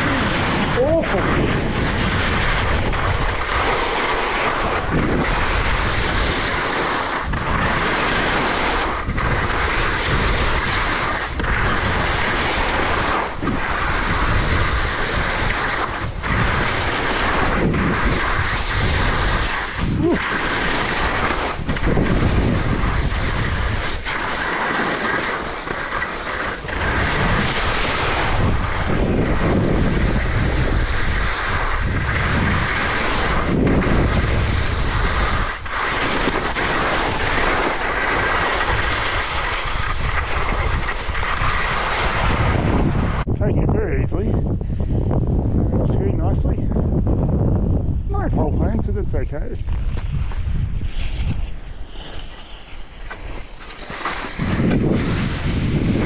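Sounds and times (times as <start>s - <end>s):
skis scraping over snow: 0.0s - 44.3s, 48.2s - 56.0s
wind rushing over microphone: 0.0s - 56.0s.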